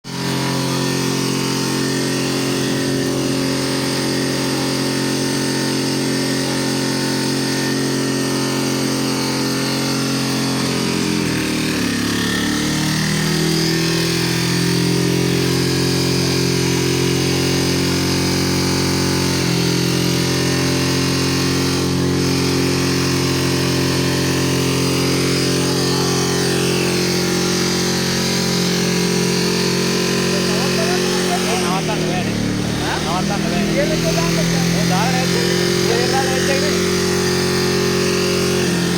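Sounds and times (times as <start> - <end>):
diesel engine racing: 0.1 - 38.9.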